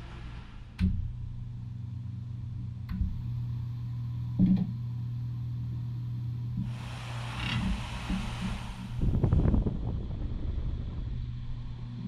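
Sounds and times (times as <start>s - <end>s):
fan motor hum: 0.0s - 12.0s.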